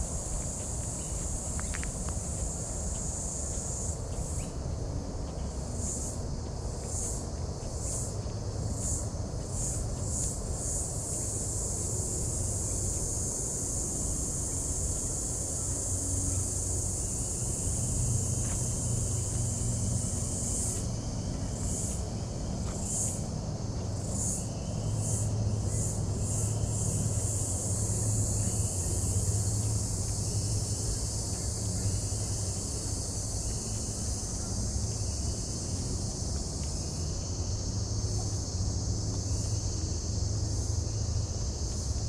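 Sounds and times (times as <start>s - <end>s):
faint insect chirps: 0.0s - 42.0s
insect drone: 0.0s - 42.0s.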